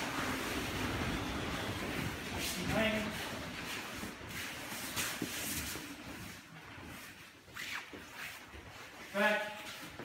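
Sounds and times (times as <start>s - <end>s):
uniforms rustling and snapping: 1.8s - 10.0s.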